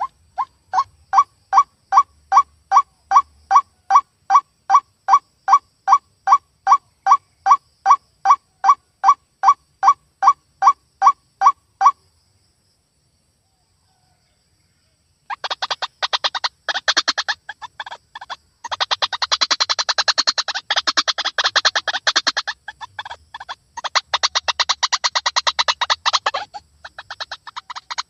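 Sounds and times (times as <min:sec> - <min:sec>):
waterhen calling harsh repeated notes: 0:00.0 - 0:12.0, 0:15.3 - 0:28.0.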